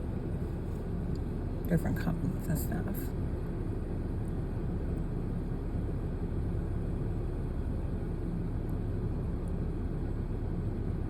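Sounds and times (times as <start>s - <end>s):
low rumble of vehicle noise: 0.0s - 11.0s.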